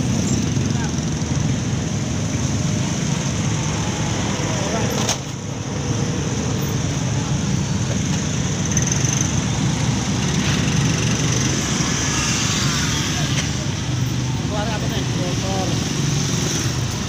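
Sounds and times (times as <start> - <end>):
car engines running: 0.0 - 17.0
motorcycle engines running: 0.0 - 17.0.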